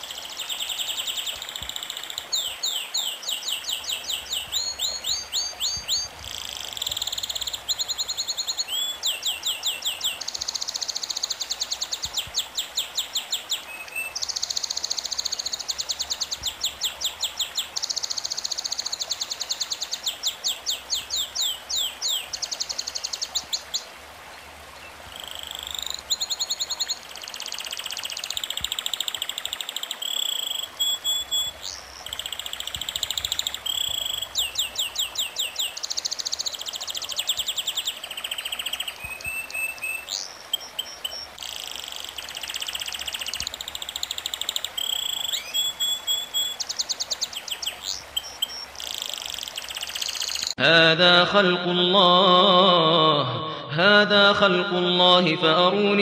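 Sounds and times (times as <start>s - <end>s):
birds singing trills: 0.0s - 23.9s, 24.8s - 50.6s.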